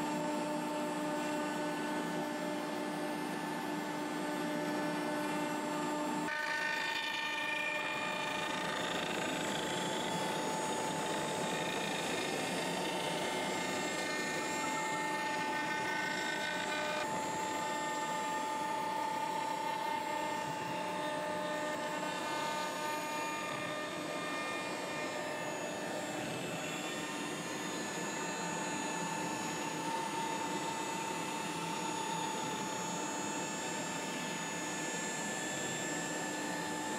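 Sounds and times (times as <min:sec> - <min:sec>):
router spindle whining: 0:00.0 - 0:36.9.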